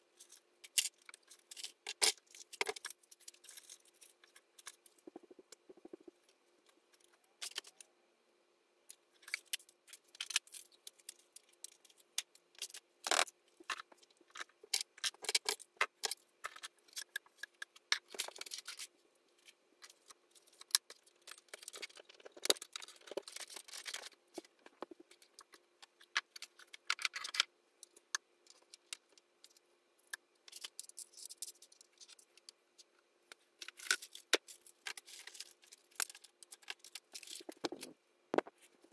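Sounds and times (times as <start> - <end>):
faint steady hum: 0.0 - 38.9
small objects clicking and clinking: 0.2 - 5.2, 6.2 - 7.9, 9.2 - 32.6, 33.6 - 38.5.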